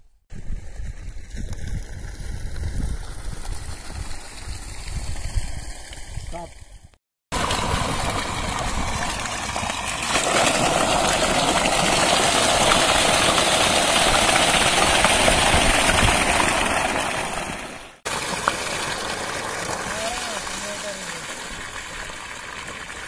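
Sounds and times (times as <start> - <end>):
water pouring into concrete tank: 0.5 - 6.2, 7.3 - 23.0.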